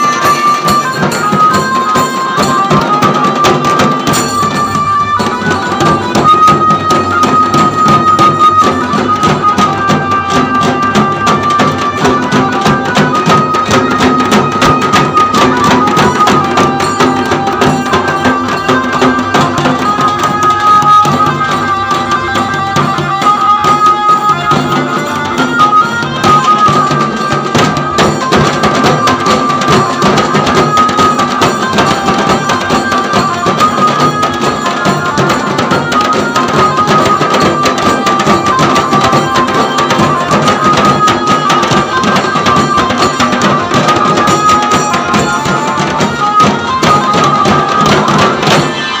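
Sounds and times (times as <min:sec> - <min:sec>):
dhol drums beaten with sticks: 0:00.0 - 0:49.0
tasha drums rattling: 0:00.0 - 0:49.0.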